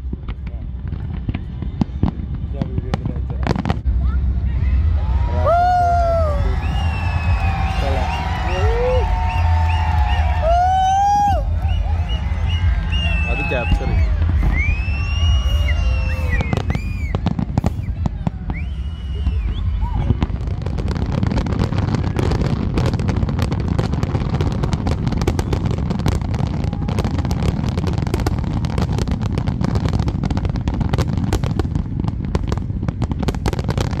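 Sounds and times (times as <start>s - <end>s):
low rumble: 0.0s - 29.2s
fireworks bangs and crackling: 0.0s - 34.0s.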